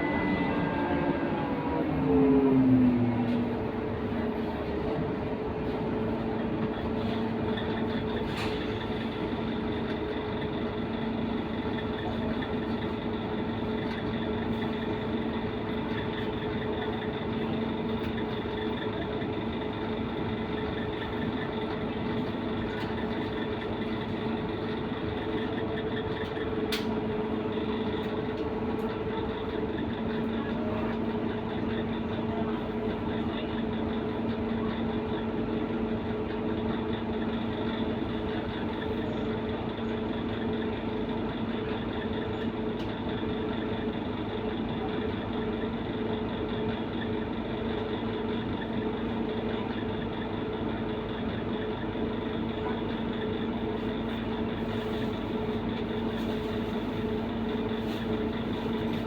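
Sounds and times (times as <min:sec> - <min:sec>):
bus engine humming: 0:00.0 - 0:59.0.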